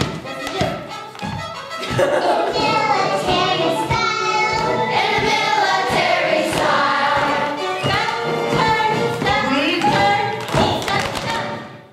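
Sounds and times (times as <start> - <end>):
recorded musical accompaniment: 0.0 - 11.9
children singing a marching song: 0.4 - 11.6.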